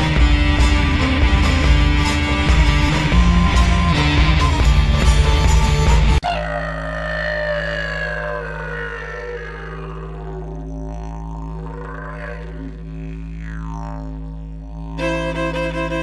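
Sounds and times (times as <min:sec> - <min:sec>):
drone music with gliding tones: 0:00.0 - 0:16.0.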